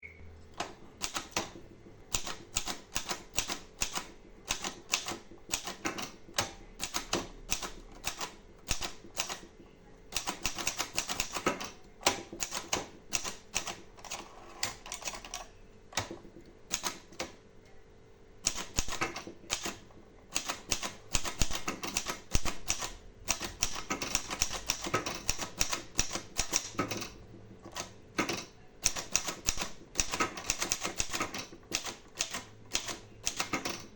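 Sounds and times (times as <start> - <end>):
manual typewriter key strikes: 0.6 - 9.5, 10.1 - 15.4, 18.4 - 33.9.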